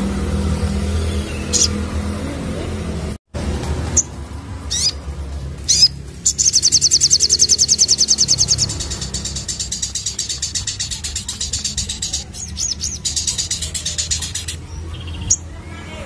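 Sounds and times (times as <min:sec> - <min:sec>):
bird chirping and trilling: 0:00.5 - 0:02.2, 0:04.7 - 0:15.9.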